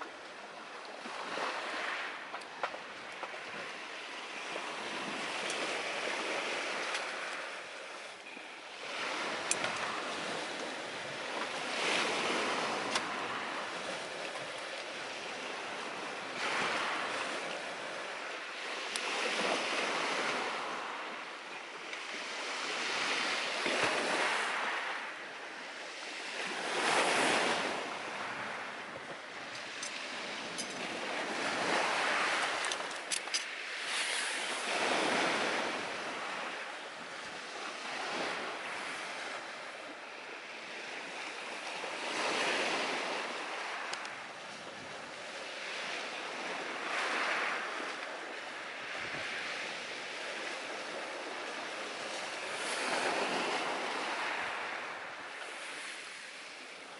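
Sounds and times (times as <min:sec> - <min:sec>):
sea surf breaking on shore: 0:00.0 - 0:56.9.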